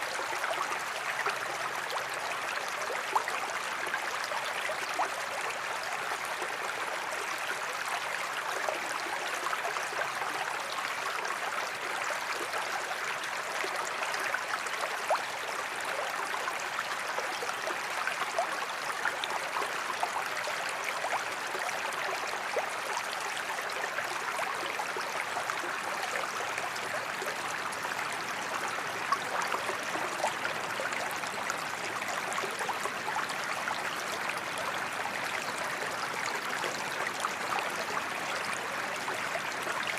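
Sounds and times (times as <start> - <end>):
creek babbling: 0.0 - 39.9.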